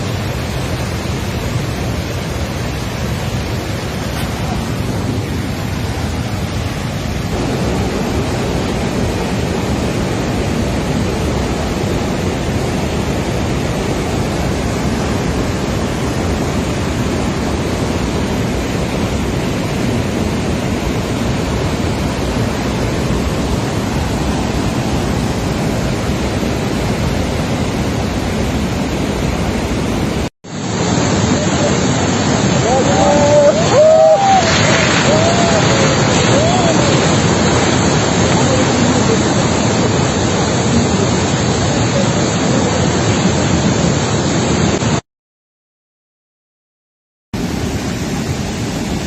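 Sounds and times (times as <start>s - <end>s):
river water rushing: 0.0s - 45.0s, 47.4s - 49.0s.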